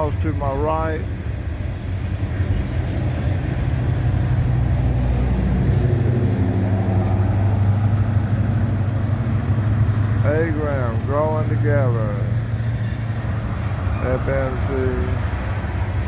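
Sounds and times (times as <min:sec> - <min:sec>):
diesel locomotive engine rumble: 0:00.0 - 0:16.0.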